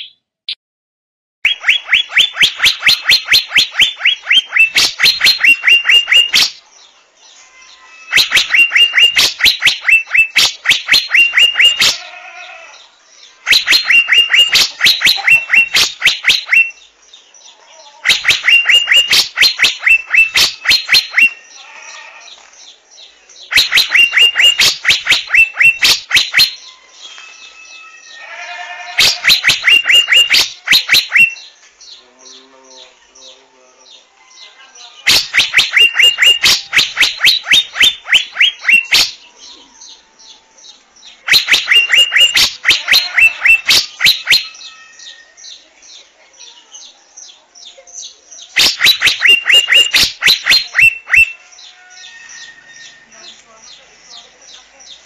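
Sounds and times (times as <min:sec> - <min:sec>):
bird calling with sharp high notes: 0:01.4 - 0:06.7, 0:07.3 - 0:17.0, 0:18.0 - 0:45.7, 0:48.0 - 0:54.6.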